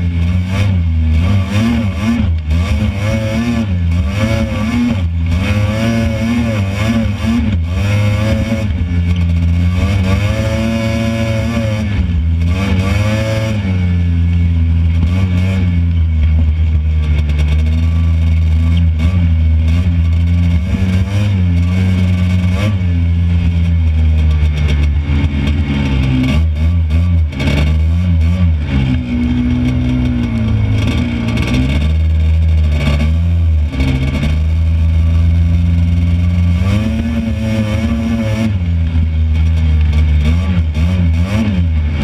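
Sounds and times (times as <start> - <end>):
buggy engine revving: 0.0 - 42.0.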